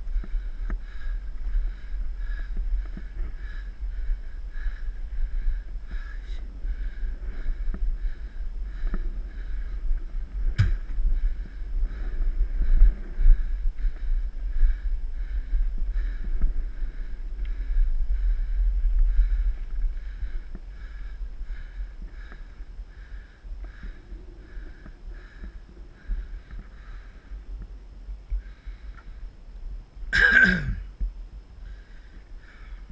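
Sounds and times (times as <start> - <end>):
wind buffeting microphone: 0.0 - 30.1
soft rhythmic pulsing: 0.0 - 32.9.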